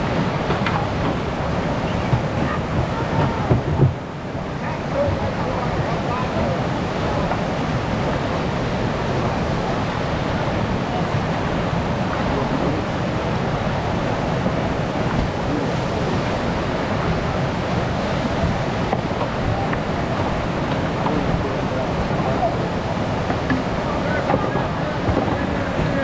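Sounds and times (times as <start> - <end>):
whitewater rushing: 0.0 - 26.0.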